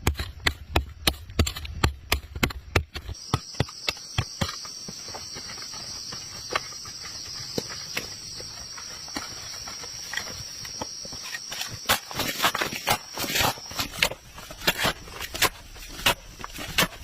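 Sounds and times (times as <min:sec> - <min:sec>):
knocks and scrapes of wood: 0:00.0 - 0:17.0
insects chirring: 0:02.3 - 0:17.0.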